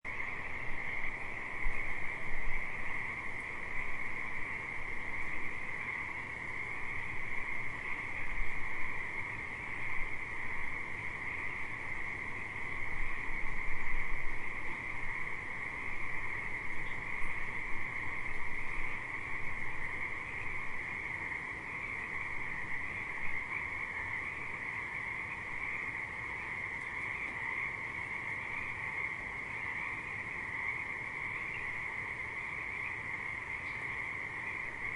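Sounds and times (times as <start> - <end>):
chorus of frogs calling: 0.1 - 34.9.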